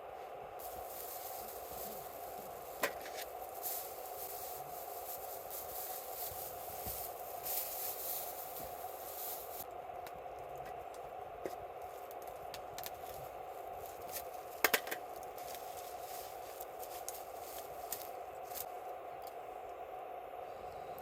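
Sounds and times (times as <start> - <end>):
steady hiss: 0.0 - 21.0
campfire crackling and popping: 0.6 - 19.4.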